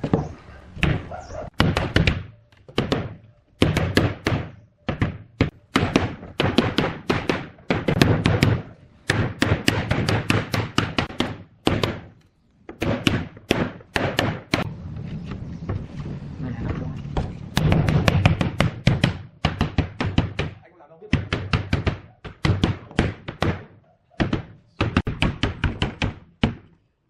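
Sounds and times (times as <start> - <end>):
hammering on wood: 0.0 - 12.1, 12.7 - 14.7, 17.2 - 26.8.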